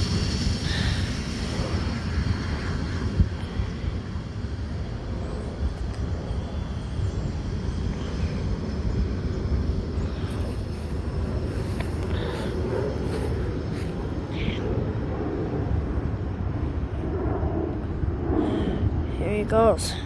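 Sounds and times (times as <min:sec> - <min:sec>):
jet engine low rumble: 0:00.0 - 0:20.0
jet engine whine: 0:00.0 - 0:20.0
wind on microphone: 0:00.0 - 0:20.0.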